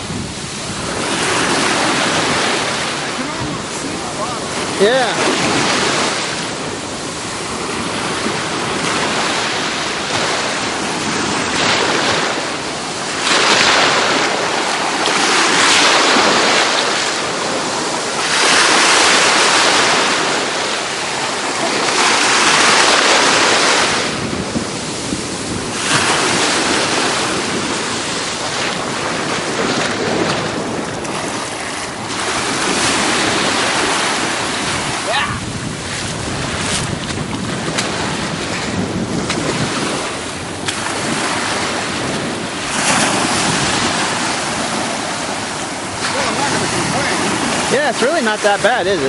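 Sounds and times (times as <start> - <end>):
ocean surf washing: 0.0 - 49.0
wind buffeting microphone: 0.0 - 49.0.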